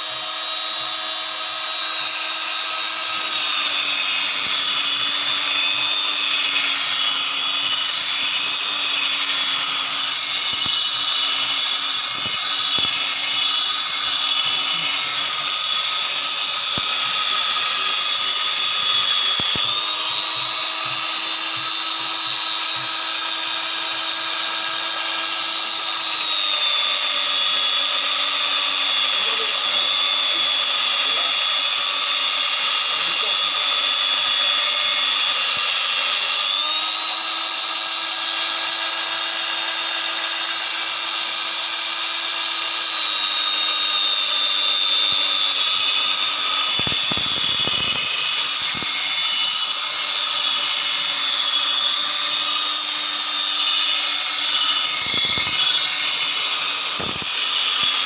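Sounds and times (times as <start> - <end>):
belt grinder whine: 0.0 - 58.0.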